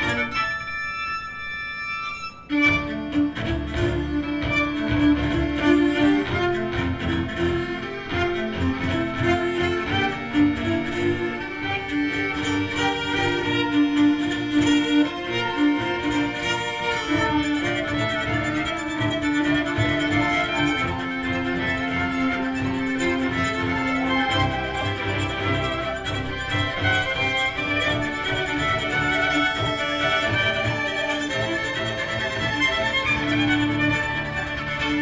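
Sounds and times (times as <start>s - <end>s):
string quintet playing fast dance: 0.0s - 35.0s.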